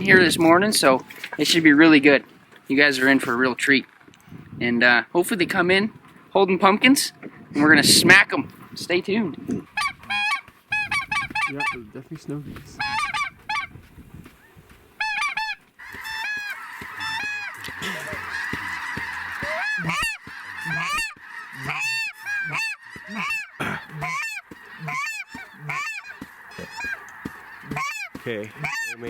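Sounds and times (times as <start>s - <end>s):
distant flock chorus: 0.0s - 29.0s
geese honking: 5.2s - 29.0s.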